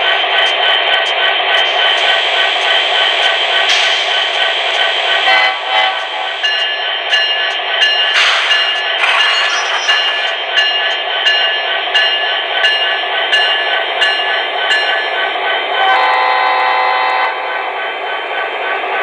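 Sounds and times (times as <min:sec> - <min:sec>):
model locomotive engine sound: 0:00.0 - 0:19.0.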